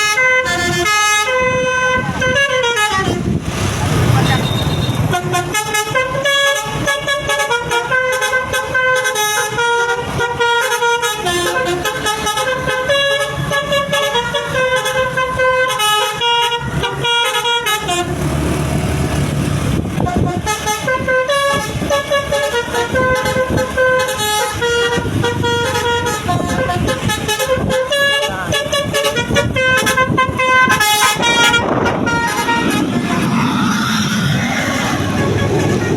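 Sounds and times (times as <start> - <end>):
bus multi-tone horn tune: 0.0 - 3.5, 4.2 - 18.7, 19.8 - 35.9
engine and road rumble: 0.0 - 35.9.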